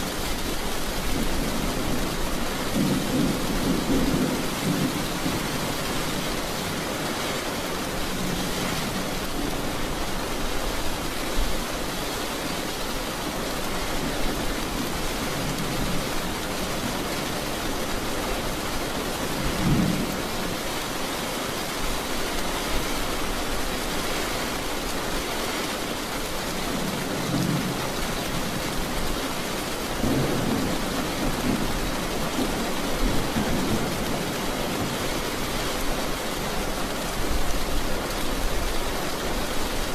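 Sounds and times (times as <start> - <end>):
heavy rain drumming on car roof: 0.0 - 39.9.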